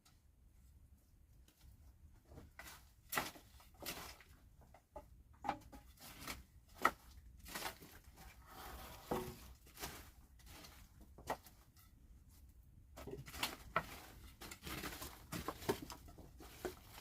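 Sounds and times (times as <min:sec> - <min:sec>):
soft knocks scrapes and rustles: 0:01.6 - 0:17.0.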